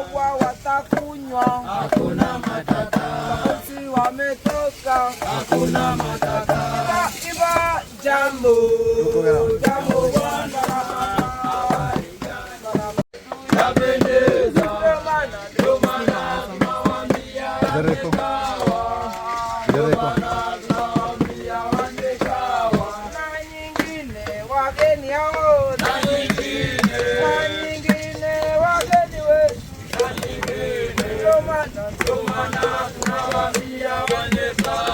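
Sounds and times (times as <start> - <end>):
people singing a chant: 0.0 - 34.9.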